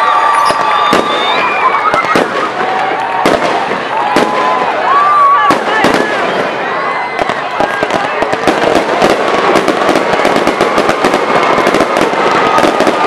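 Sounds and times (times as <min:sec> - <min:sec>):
dense applause: 0:00.0 - 0:13.0
people shouting and whooping: 0:00.0 - 0:13.0.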